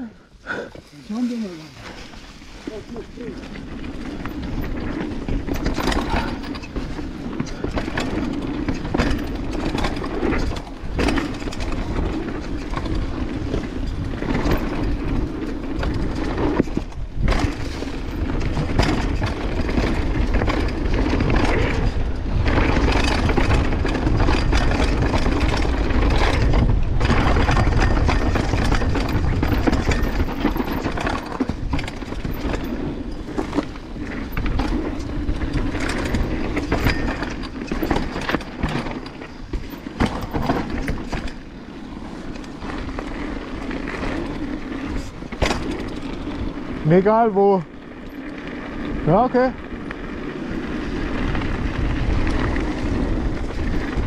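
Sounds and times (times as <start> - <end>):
bike tyres rumbling on dirt: 0.0 - 54.0
wind buffeting microphone: 0.0 - 54.0
bike chain and frame clattering: 0.9 - 54.0.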